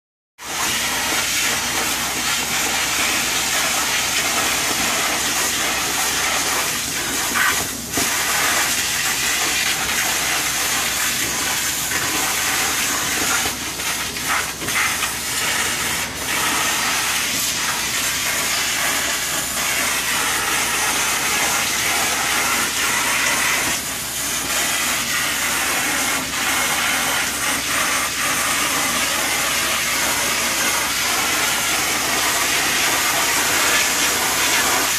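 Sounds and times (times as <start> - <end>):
cleaning wand spraying and sucking: 0.4 - 34.9.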